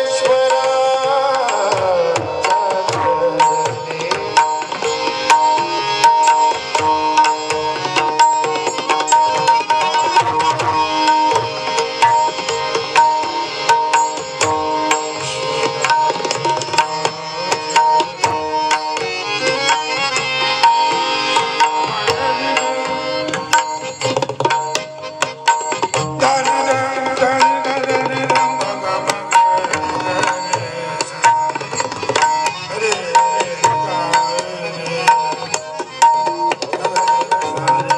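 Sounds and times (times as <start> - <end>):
hand drums fast rhythm: 0.0 - 37.9.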